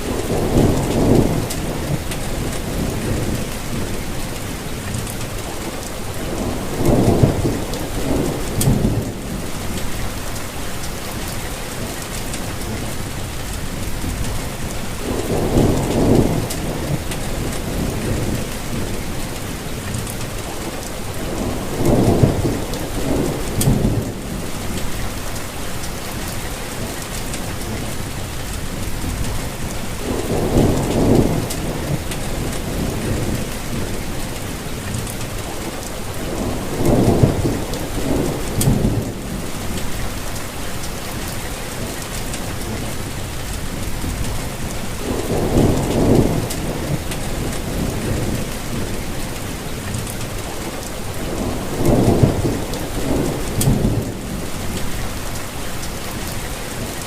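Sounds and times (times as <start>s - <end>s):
low rumbles of thunder: 0.0s - 26.6s, 27.4s - 57.0s
steady rainfall hissing: 0.0s - 57.0s.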